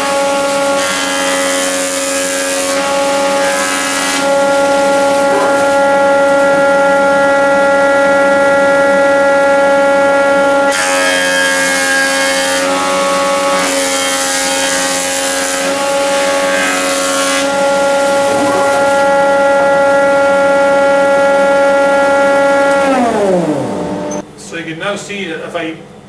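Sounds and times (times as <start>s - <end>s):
planer cutting a board: 0.0s - 24.2s
planer whining: 0.0s - 24.2s.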